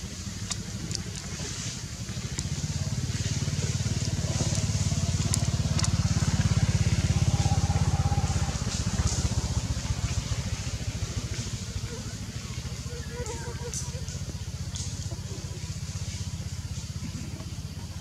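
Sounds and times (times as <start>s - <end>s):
engine pulsing: 0.0s - 18.0s.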